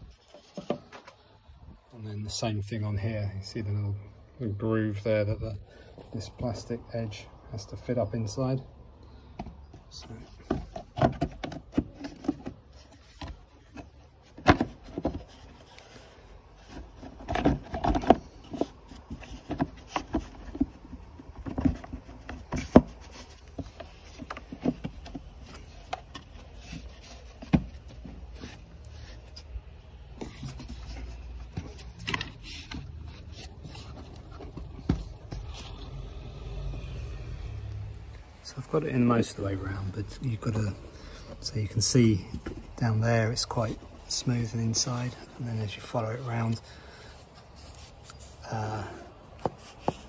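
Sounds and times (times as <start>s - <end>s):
plastic rubbing and scraping: 0.0s - 1.4s, 9.3s - 36.6s, 38.6s - 50.0s.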